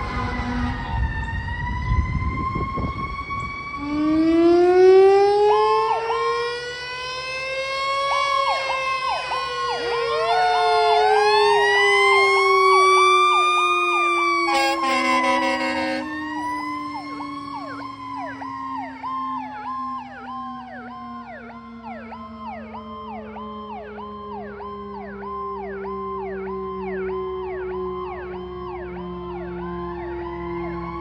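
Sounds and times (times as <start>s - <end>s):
siren long wail: 0.0s - 31.0s
siren sweeping up and down quickly: 0.0s - 31.0s.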